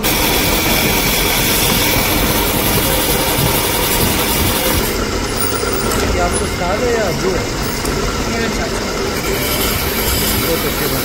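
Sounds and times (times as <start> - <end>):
grinding wheel hissing: 0.0 - 11.0
machine running hum: 0.0 - 11.0.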